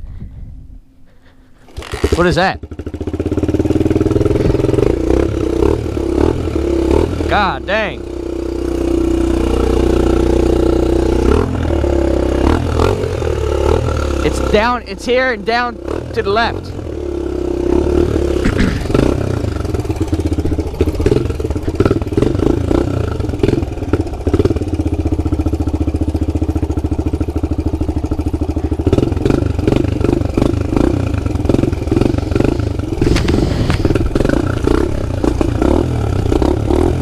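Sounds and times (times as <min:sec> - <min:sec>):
pit bike engine revving: 0:01.6 - 0:37.0.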